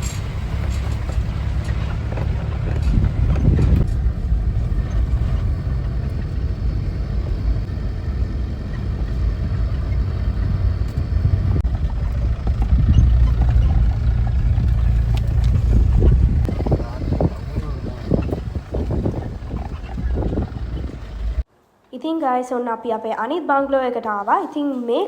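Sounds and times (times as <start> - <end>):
vehicle engine and road rumble: 0.0 - 21.5
wind buffeting microphone: 0.0 - 21.5.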